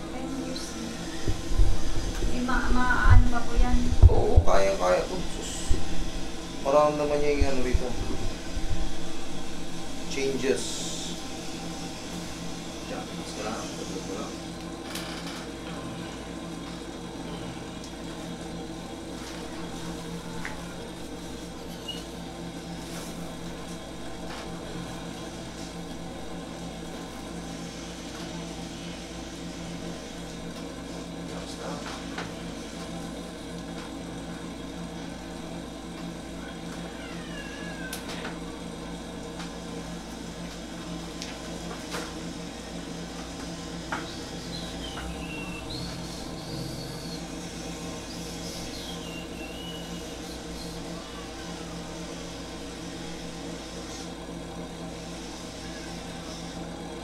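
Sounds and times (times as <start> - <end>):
air conditioner humming: 0.0 - 57.0.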